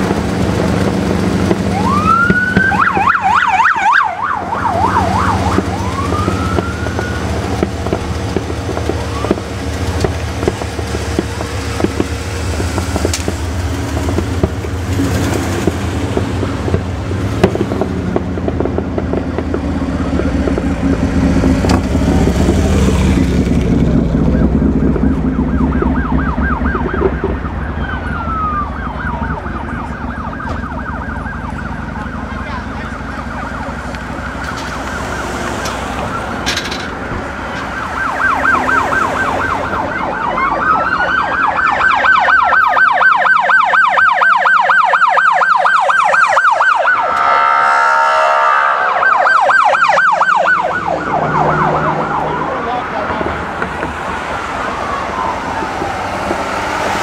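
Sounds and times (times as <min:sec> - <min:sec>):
emergency siren yelping and wailing: 0:00.0 - 0:57.0
engine and traffic rumble: 0:00.0 - 0:57.0.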